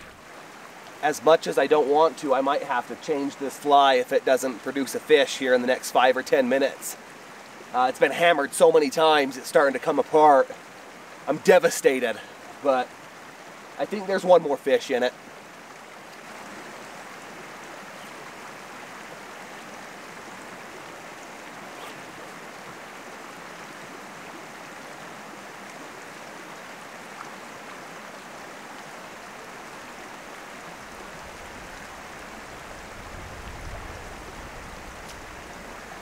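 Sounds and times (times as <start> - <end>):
stream rushing: 0.0 - 36.0.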